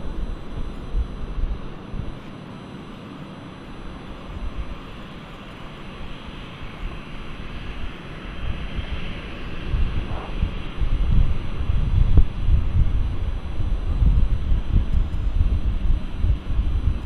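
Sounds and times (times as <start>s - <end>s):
wind buffeting microphone: 0.0s - 2.3s, 3.6s - 17.0s
airliner engine rumble and whine: 0.0s - 17.0s.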